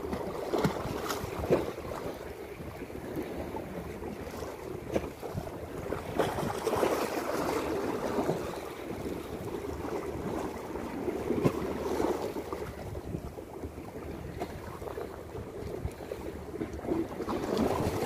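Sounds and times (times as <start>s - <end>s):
sea waves splashing against rocks: 0.0s - 18.0s
wind buffeting microphone: 0.0s - 18.0s.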